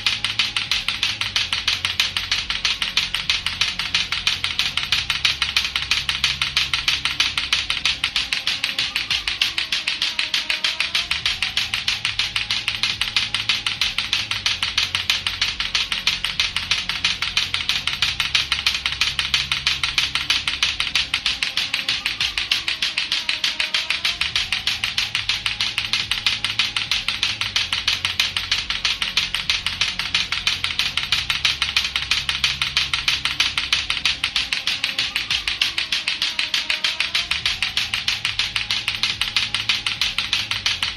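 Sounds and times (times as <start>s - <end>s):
faint looping background tune: 0.0s - 40.9s
plastic clacker toy clacking: 0.0s - 40.9s.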